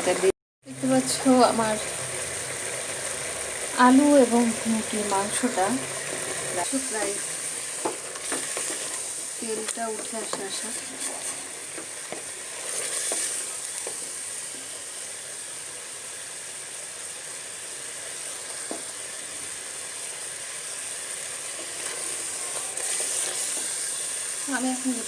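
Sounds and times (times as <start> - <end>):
curry sizzling in a pot: 0.0 - 25.0.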